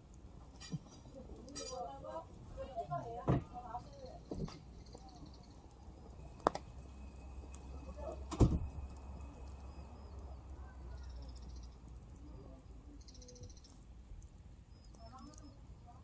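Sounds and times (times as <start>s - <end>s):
campfire crackling and popping: 0.0s - 12.9s
faint birds chirping: 0.0s - 16.0s.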